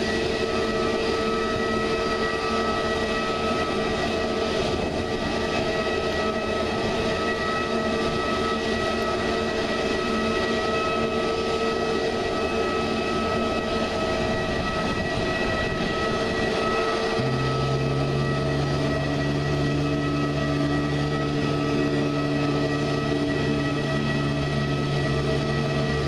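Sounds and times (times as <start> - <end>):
jet engines whining: 0.0 - 26.0.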